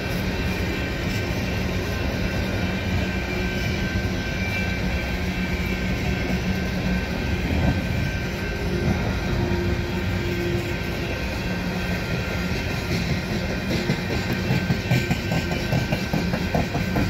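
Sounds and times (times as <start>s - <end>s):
hopper cars rumbling on rails: 0.0s - 17.0s
steady whining tones: 0.0s - 17.0s.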